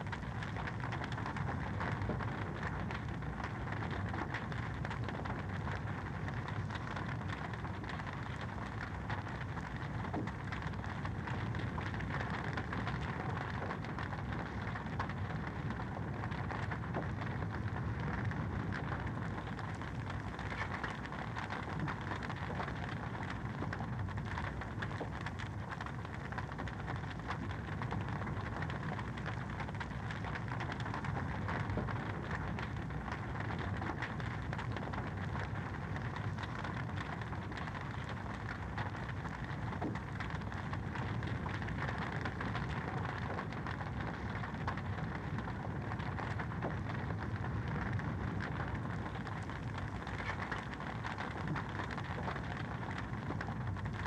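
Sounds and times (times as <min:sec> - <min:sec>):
low fire rumble: 0:00.0 - 0:54.0.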